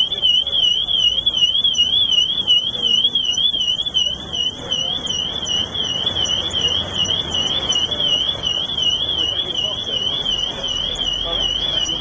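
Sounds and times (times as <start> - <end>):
warbling electronic alarm: 0.0 - 12.0.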